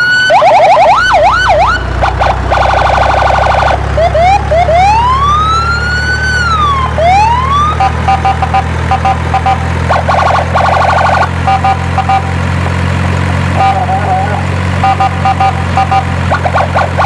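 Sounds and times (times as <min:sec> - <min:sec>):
toy electronic siren: 0:00.0 - 0:12.3, 0:13.6 - 0:14.2, 0:14.8 - 0:17.0.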